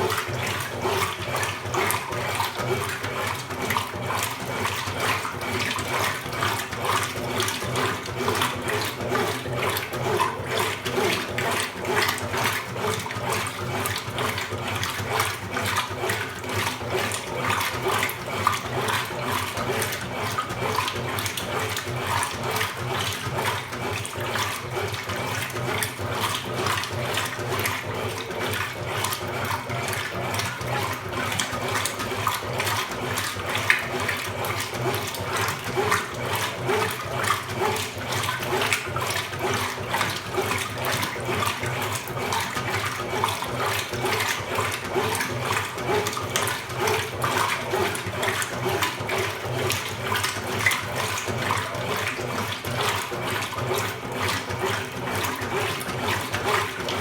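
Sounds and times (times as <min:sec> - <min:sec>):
washing machine low hum: 0:00.0 - 0:57.0
washing machine water sloshing: 0:00.0 - 0:57.0.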